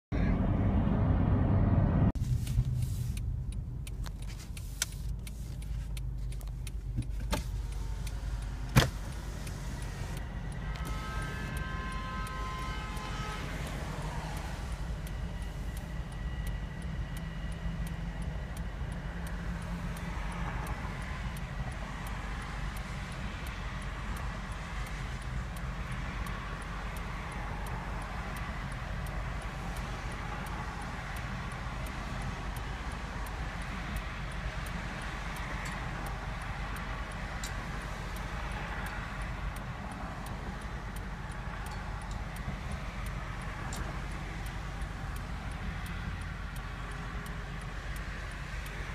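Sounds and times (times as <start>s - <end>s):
rush of travel noise: 0.0s - 48.9s
car engine idling: 0.1s - 48.9s.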